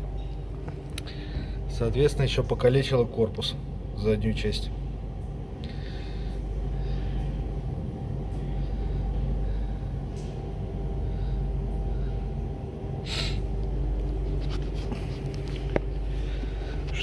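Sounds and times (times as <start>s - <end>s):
low mechanical drone of machine: 0.0s - 17.0s.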